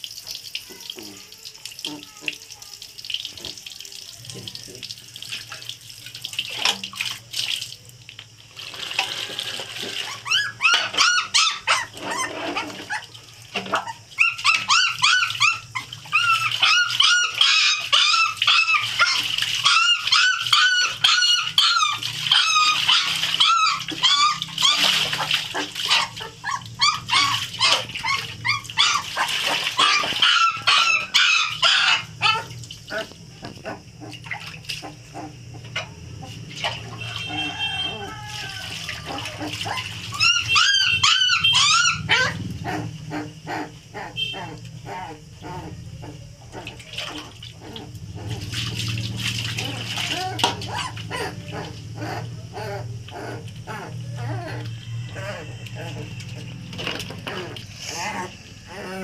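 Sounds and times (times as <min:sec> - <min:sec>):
puppy whining and squealing: 0:10.0 - 0:13.1, 0:13.7 - 0:48.4, 0:49.6 - 0:59.0.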